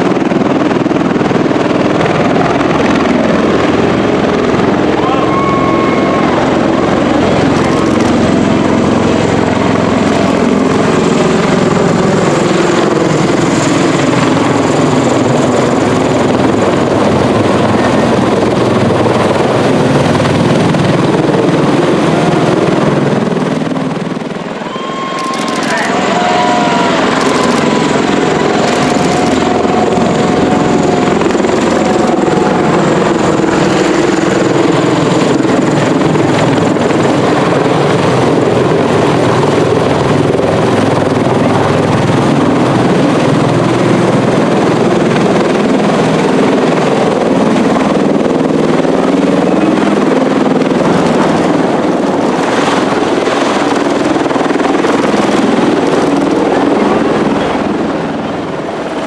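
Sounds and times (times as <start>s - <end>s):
tiltrotor aircraft rotor and turbine drone: 0.0s - 59.0s.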